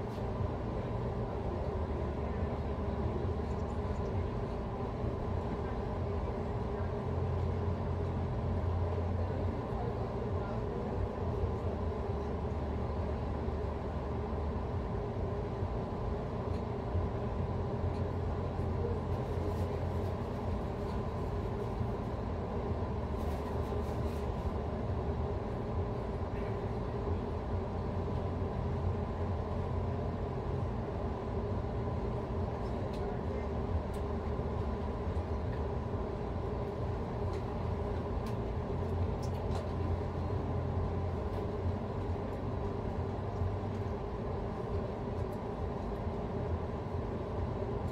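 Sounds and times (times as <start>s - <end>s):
low rumble with hum: 0.0s - 47.9s.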